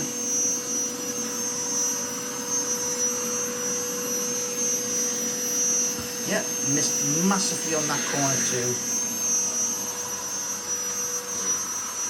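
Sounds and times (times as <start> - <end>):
robot vacuum humming with whine: 0.0 - 12.0.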